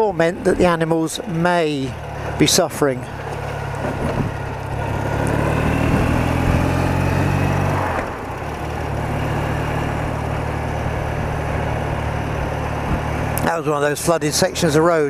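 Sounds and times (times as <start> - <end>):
rushing wind: 0.0 - 13.6
motorcycle engine running: 0.0 - 15.0
road noise: 0.0 - 15.0.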